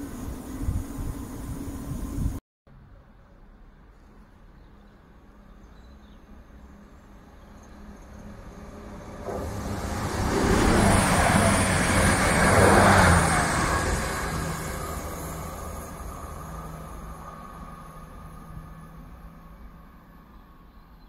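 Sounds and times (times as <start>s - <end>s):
train passing at speed: 0.0s - 2.4s, 6.3s - 21.0s.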